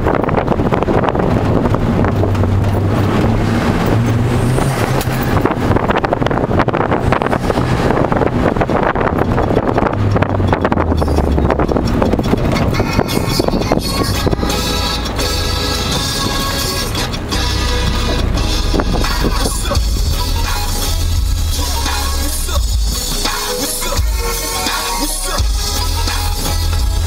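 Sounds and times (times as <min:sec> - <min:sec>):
car engine: 0:00.0 - 0:27.0
wind and road noise: 0:00.0 - 0:27.0.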